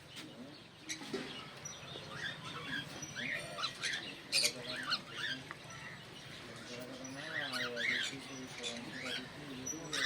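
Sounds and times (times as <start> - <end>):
parrots chirping and chattering: 0.0 - 10.0.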